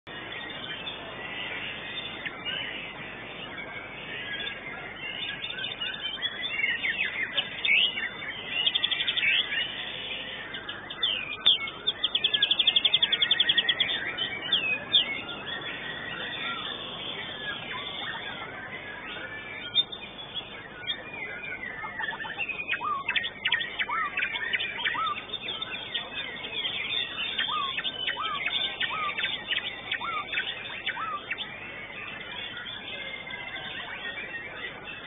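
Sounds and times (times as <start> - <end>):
bird singing whistles and trills: 0.1 - 35.0.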